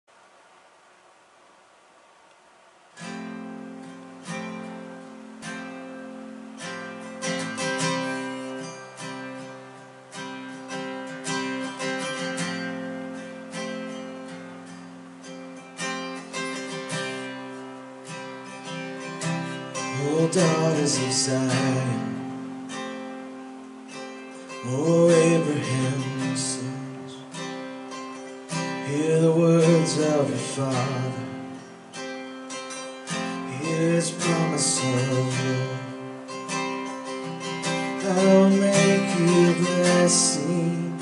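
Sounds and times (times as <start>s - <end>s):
acoustic guitar strumming chords: 2.6s - 41.0s.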